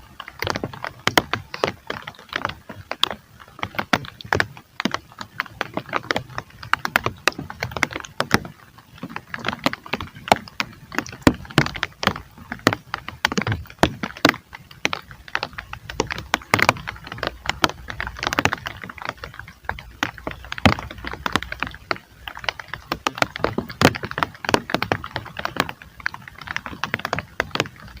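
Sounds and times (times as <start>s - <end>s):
heavy rain tapping: 0.0s - 28.0s.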